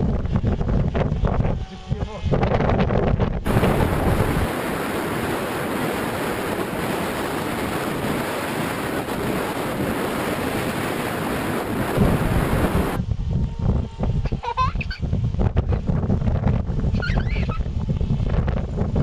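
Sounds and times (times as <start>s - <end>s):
low wind buffeting: 0.0s - 19.0s
wind rushing over microphone: 0.0s - 19.0s.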